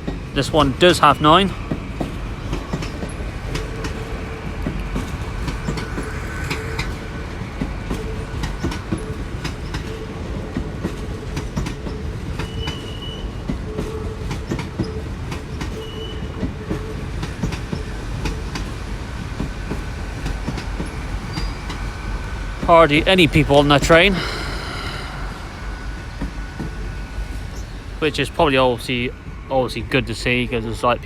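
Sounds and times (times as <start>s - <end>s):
train wheels clicking over rail joints: 0.0s - 29.1s.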